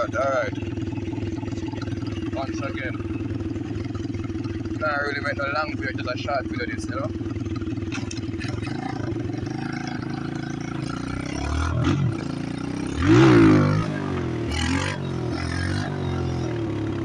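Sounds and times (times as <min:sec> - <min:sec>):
small motorbike engine revving: 0:00.0 - 0:17.0.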